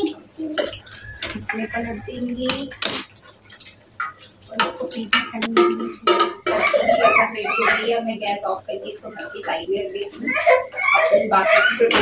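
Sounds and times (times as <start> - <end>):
metal pots and utensils clinking: 0.0 - 12.0.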